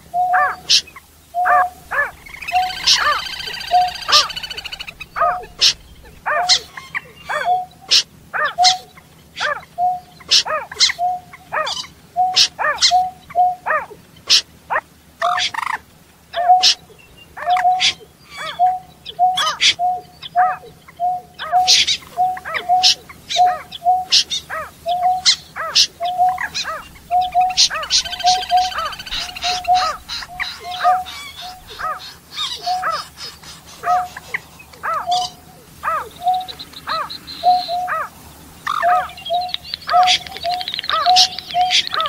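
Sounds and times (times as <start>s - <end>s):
caged birds calling: 0.0s - 42.0s.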